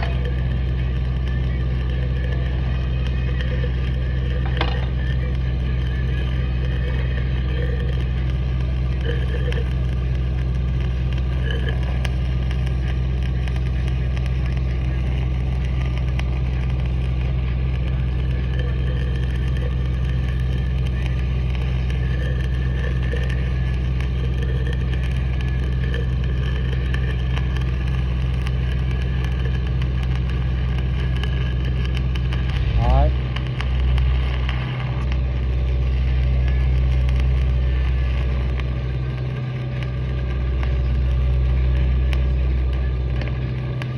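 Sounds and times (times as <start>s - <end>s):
welding arc crackling: 0.0s - 43.9s
welding machine drone: 0.0s - 43.9s.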